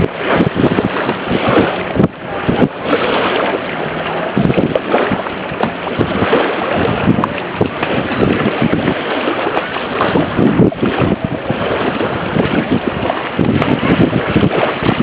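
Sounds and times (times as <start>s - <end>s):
water rushing around boat: 0.0s - 15.0s
wind buffeting microphone: 0.0s - 15.0s.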